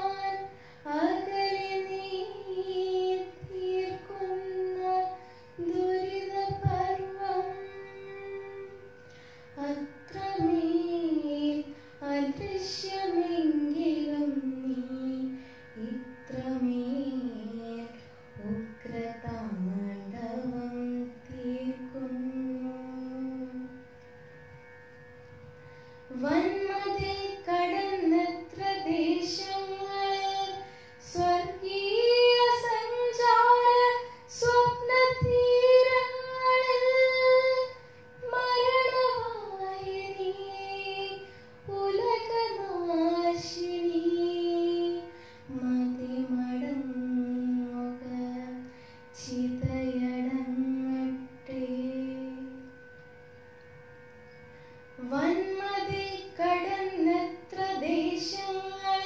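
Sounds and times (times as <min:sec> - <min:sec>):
girl singing a chanted poem: 0:00.0 - 0:08.9, 0:09.6 - 0:23.9, 0:26.1 - 0:52.7, 0:55.0 - 0:59.0.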